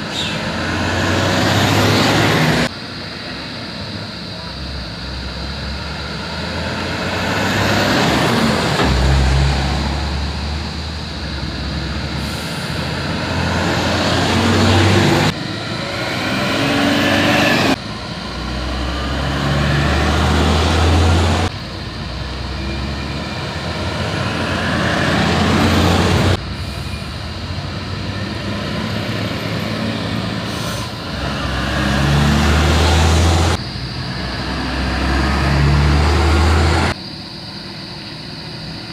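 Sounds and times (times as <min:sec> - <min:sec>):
diesel buses driving past: 0:00.0 - 0:37.0.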